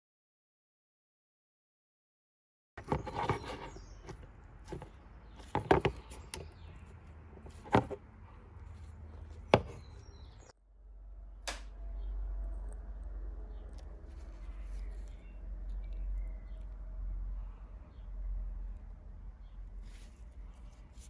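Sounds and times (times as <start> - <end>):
low steady hum: 2.8 - 21.0.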